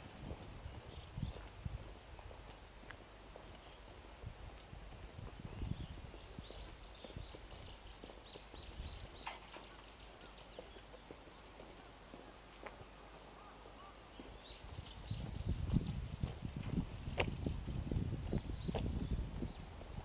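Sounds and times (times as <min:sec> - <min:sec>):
faint footsteps: 0:00.0 - 0:20.0
outdoor background noise: 0:00.0 - 0:20.0.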